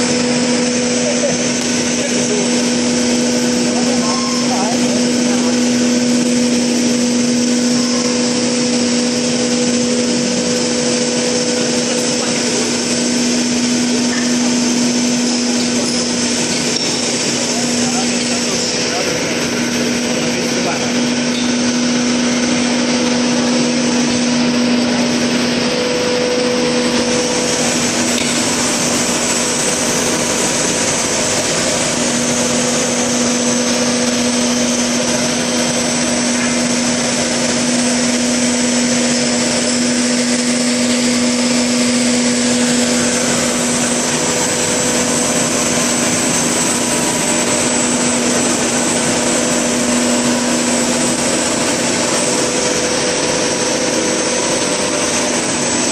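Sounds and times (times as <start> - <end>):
low machine hum: 0.0 - 55.9
rushing machine noise: 0.0 - 55.9
thin high whine: 0.0 - 55.9.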